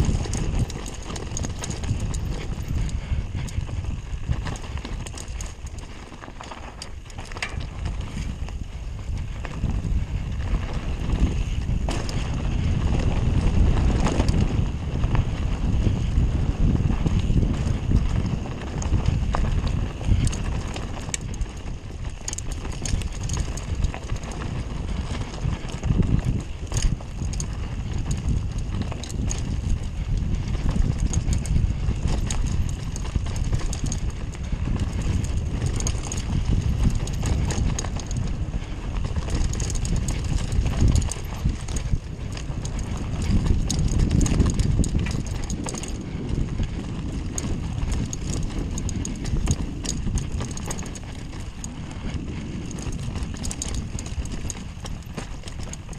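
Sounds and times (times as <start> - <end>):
bike rattling over ground: 0.0 - 55.9
tyres and wind rumble: 0.0 - 55.9.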